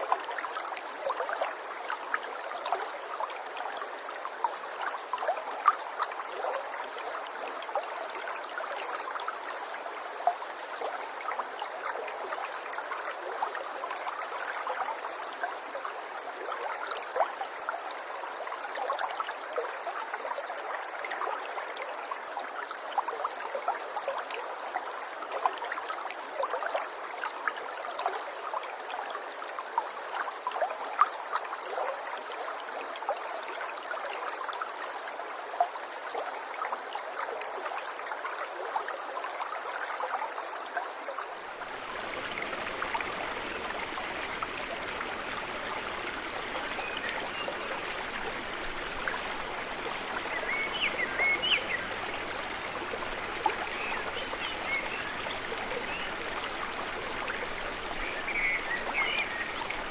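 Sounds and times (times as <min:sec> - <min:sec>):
water babbling: 0:00.0 - 0:59.9.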